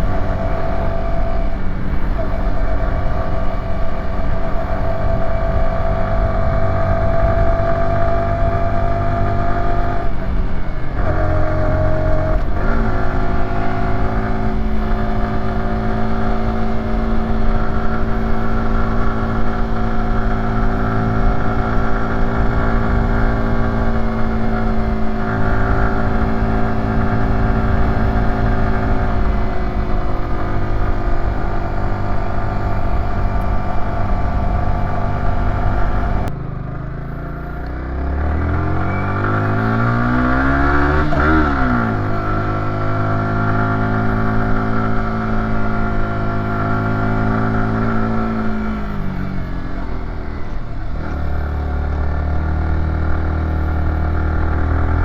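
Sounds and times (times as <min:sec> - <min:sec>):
motorcycle engine revving and shifting: 0:00.0 - 0:55.0.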